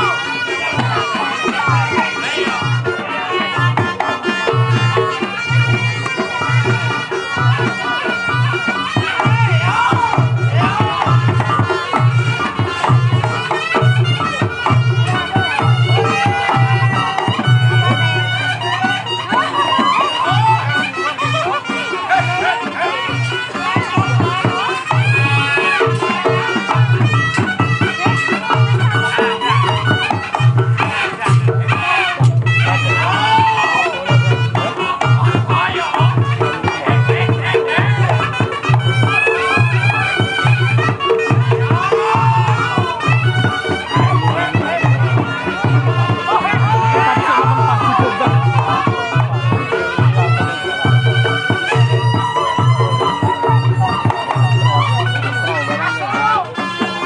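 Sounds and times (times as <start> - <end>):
drums and gongs beat: 0.0 - 57.0.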